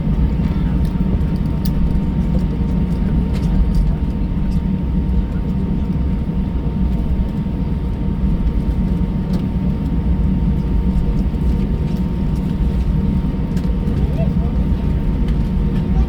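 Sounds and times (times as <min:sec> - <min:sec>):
aircraft cabin low rumble: 0:00.0 - 0:16.0.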